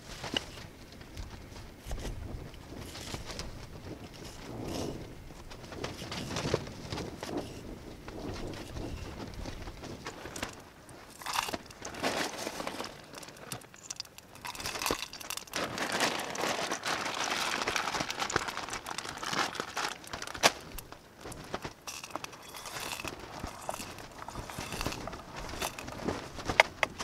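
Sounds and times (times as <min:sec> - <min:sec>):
plastic packaging crinkling: 0:01.5 - 0:27.0.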